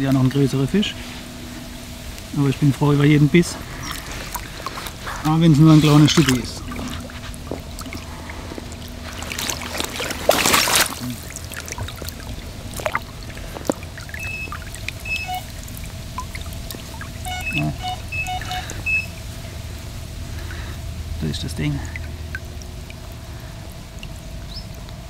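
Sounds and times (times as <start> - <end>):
water dripping and trickling: 0.0 - 25.0
water splashing off a fish: 3.4 - 24.9.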